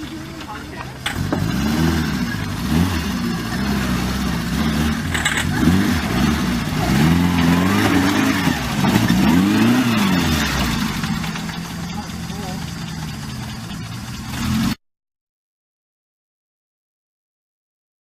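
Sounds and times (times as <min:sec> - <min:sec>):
vehicle engine revving: 0:00.0 - 0:14.8.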